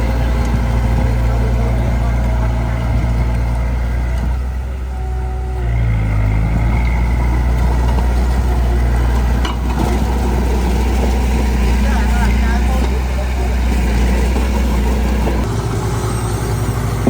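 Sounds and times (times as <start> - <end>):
heavy diesel engine revving: 0.0 - 17.0.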